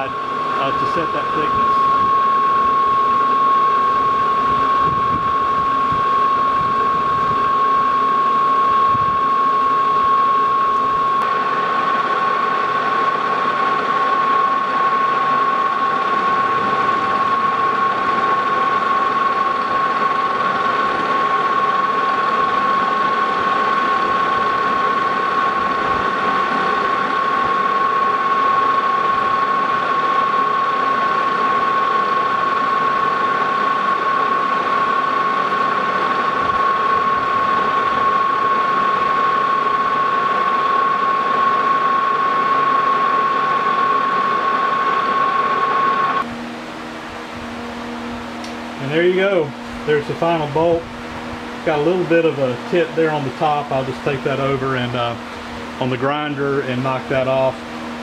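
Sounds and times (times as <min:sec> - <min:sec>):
metal lathe whining: 0:00.0 - 0:58.0.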